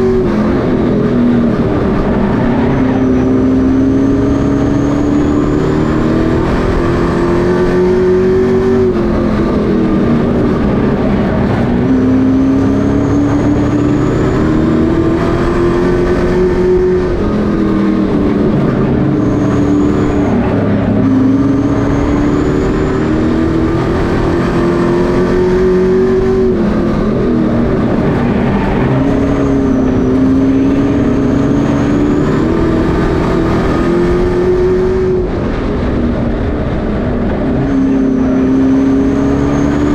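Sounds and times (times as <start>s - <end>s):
race truck engines racing: 0.0s - 39.9s.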